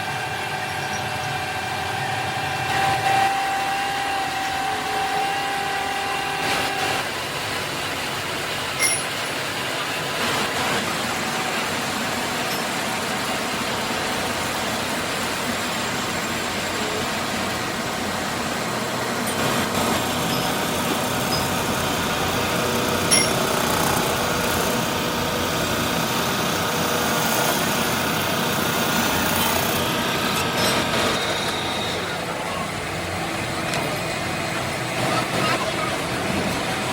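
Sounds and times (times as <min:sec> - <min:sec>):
factory machinery hum: 0:00.0 - 0:36.9.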